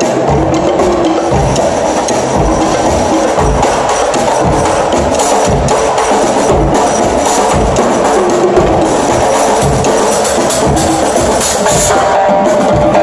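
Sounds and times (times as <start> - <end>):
low drum beat: 0.0 - 13.0
percussion ensemble playing: 0.0 - 13.0.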